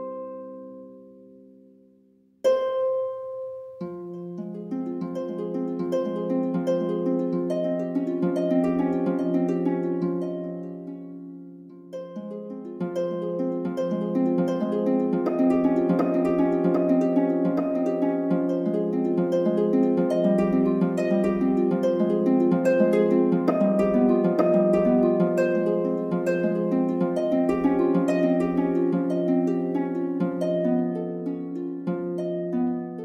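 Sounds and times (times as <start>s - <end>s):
plucked harp notes: 2.4s - 33.0s.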